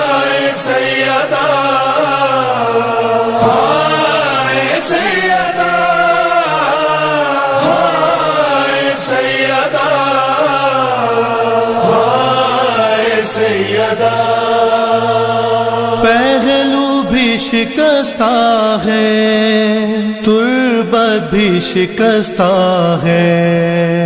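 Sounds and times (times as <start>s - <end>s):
person singing wordless lament: 0.0s - 24.0s.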